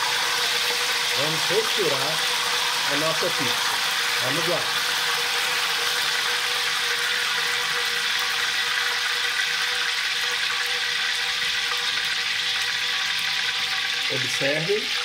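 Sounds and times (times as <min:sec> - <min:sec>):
oil sizzling in frying pan: 0:00.0 - 0:15.0.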